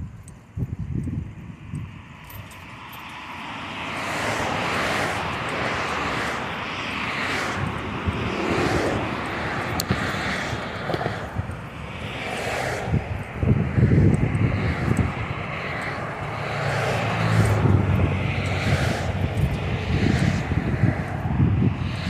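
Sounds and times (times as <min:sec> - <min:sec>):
traffic rushing past: 0:01.4 - 0:22.0.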